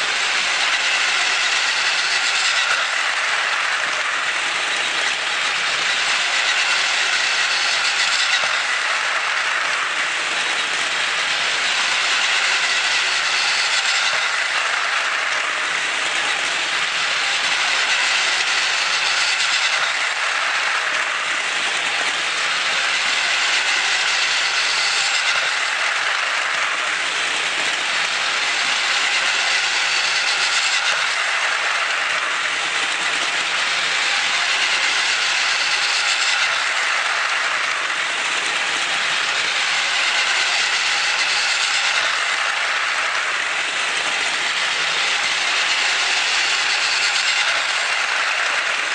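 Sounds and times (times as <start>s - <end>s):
toy train motor whirring: 0.0s - 48.9s.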